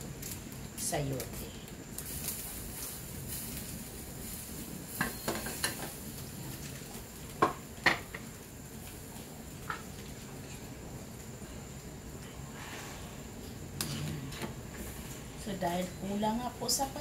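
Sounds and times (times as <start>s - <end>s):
boiling broth hissing: 0.0s - 17.0s.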